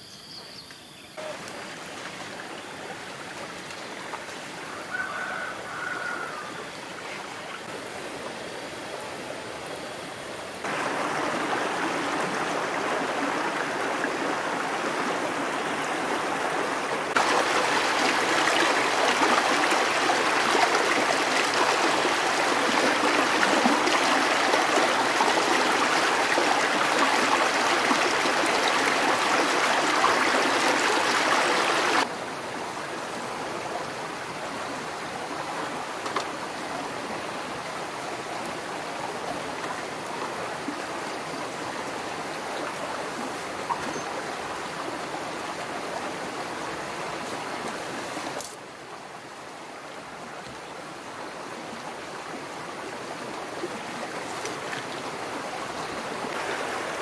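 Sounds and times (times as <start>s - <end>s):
stream rushing: 1.2s - 57.0s.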